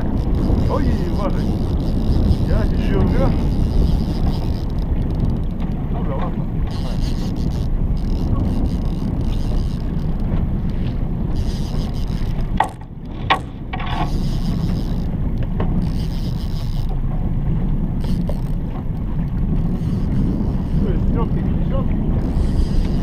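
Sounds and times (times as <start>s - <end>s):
outboard motor running: 0.0s - 23.0s
wind on microphone: 0.0s - 23.0s.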